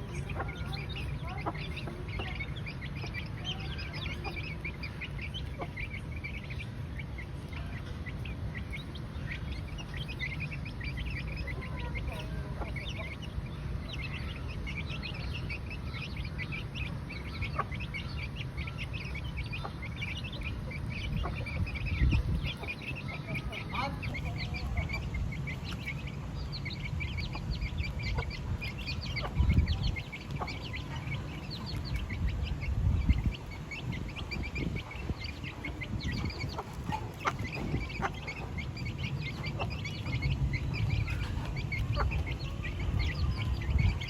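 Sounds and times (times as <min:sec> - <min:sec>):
chickens chirping and clucking: 0:00.0 - 0:44.0
steady low rumble: 0:00.0 - 0:44.0.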